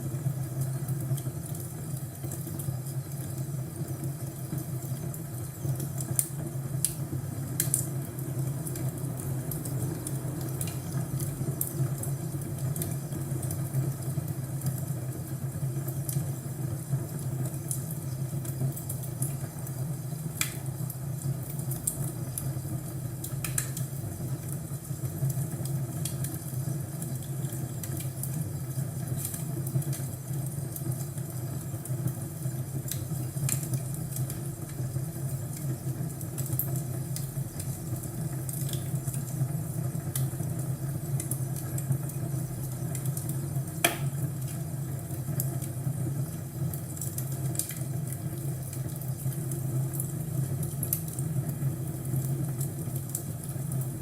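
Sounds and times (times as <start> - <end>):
fire crackles and pops: 0.0 - 54.0.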